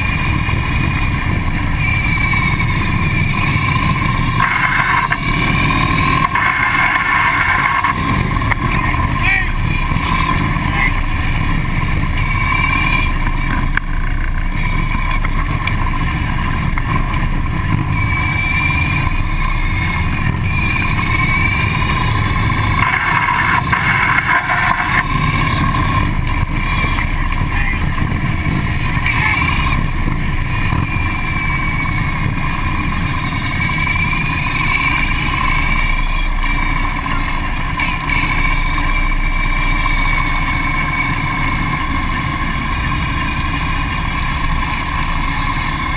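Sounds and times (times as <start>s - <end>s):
motorcycle engines rumbling: 0.0s - 45.9s
wind: 0.0s - 45.9s.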